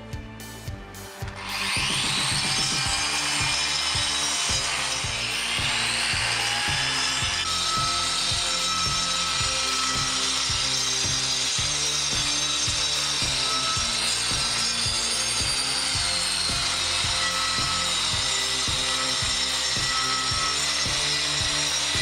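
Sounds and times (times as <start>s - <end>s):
angle grinder whine: 1.3s - 22.0s.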